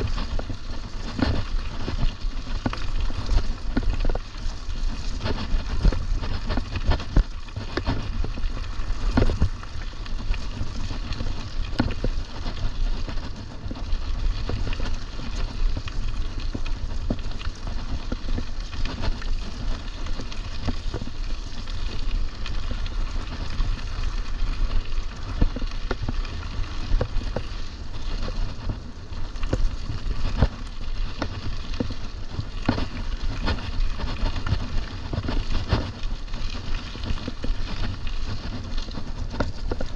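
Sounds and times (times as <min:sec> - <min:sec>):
bike clicks and rattles: 0:00.0 - 0:39.9.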